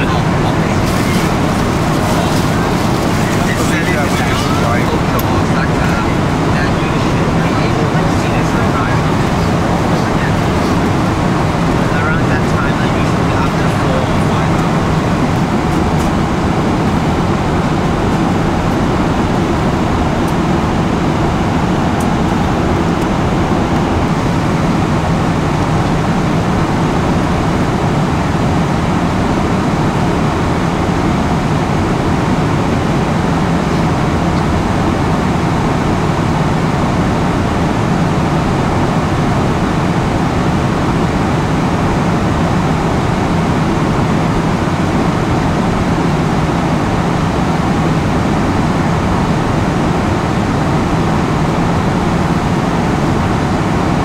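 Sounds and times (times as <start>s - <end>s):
airliner cabin noise: 0.0s - 54.0s.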